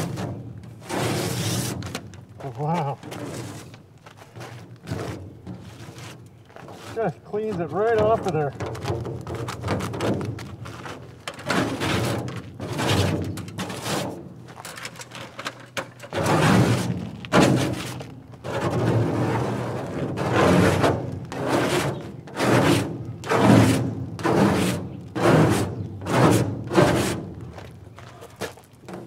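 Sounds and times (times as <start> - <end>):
scraper scraping metal panel: 0.0 - 27.6.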